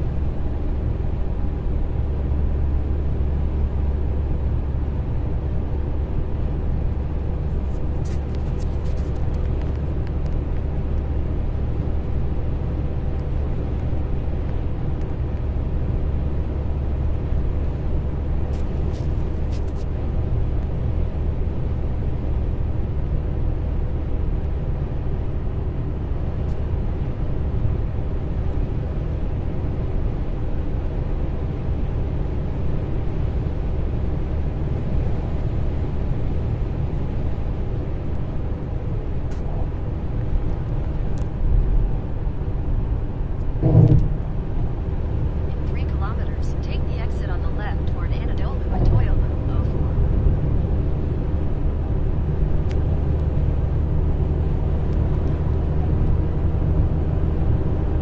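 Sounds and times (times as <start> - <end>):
faint steady hum: 0.0 - 54.6
car road and engine rumble: 0.0 - 58.0.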